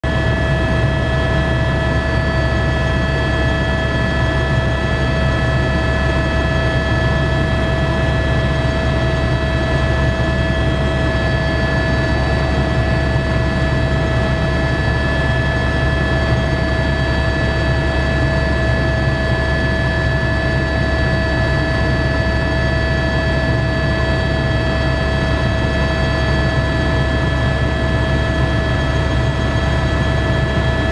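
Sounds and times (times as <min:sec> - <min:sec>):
helicopter rotor and engine drone: 0:00.0 - 0:30.9
steady whining tones: 0:00.1 - 0:30.9.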